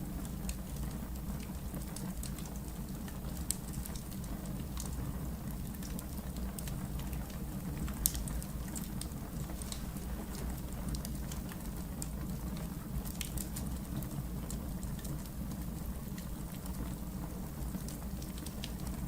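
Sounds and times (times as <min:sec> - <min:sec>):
fire crackles and pops: 0:00.0 - 0:19.0
wood fire burning: 0:00.0 - 0:19.0.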